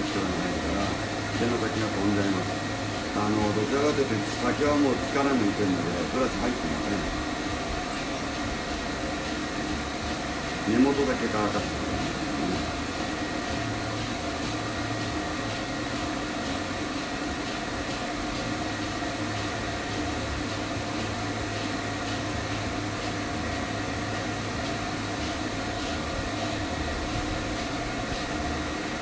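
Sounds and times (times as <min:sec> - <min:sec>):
dryer air rushing: 0:00.0 - 0:29.0
motor hum: 0:00.0 - 0:29.0.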